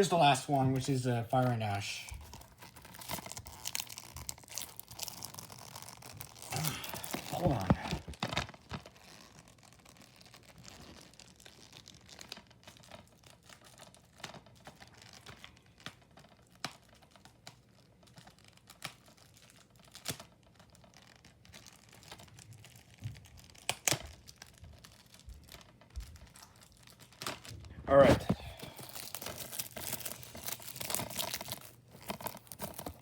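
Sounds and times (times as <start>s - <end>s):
plastic wrap crinkling and tearing: 0.0s - 33.0s.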